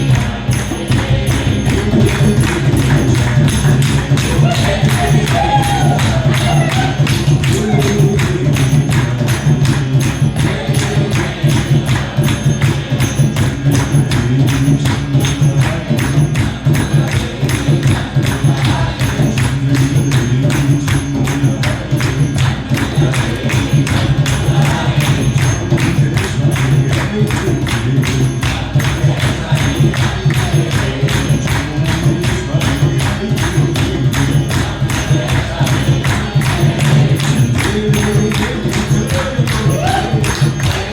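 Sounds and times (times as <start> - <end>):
jingling percussion: 0.0 - 40.9
voices chanting: 0.0 - 40.9.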